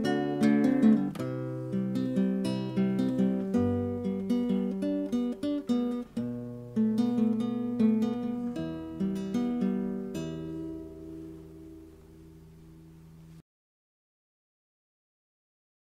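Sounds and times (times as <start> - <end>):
acoustic guitar plucking and strumming: 0.0 - 13.4.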